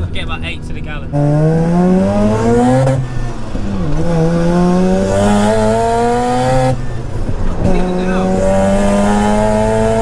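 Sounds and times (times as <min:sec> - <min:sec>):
rotary engine revving from cabin: 0:01.1 - 0:10.0.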